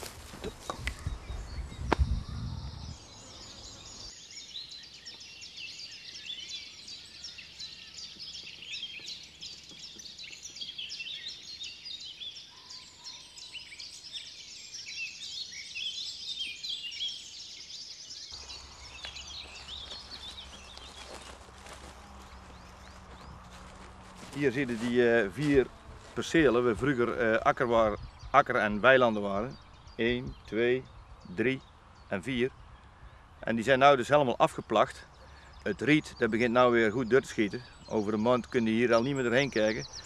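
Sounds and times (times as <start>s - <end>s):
songbirds chirping and trilling: 0.0s - 40.0s.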